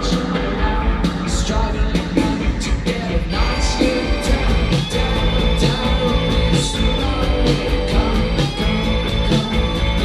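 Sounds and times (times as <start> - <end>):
drum and cymbal hits: 0.0 - 10.0
electric guitar: 0.0 - 10.0.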